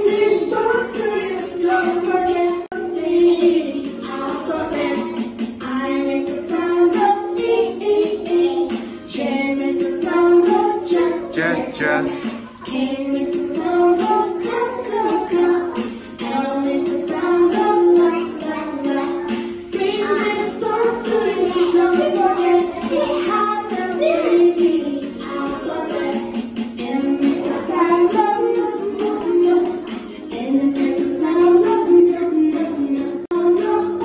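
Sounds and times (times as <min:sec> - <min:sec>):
children singing along: 0:00.0 - 0:34.0
woman singing: 0:00.0 - 0:34.0.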